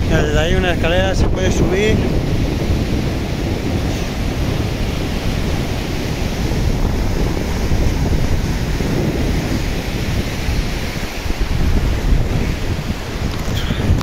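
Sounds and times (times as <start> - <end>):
surf breaking on beach: 0.0 - 14.0
wind buffeting microphone: 0.0 - 14.0.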